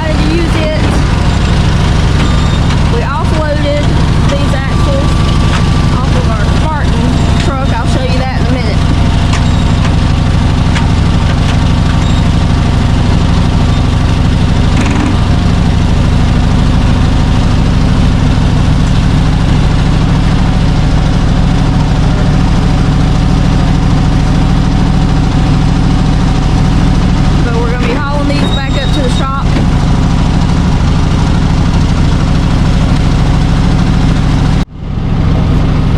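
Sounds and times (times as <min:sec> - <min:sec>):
truck engine running: 0:00.0 - 0:35.9.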